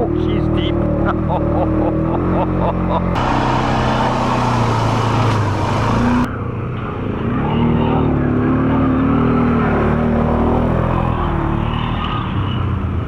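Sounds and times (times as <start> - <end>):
atv engine revving: 0.0 - 12.4.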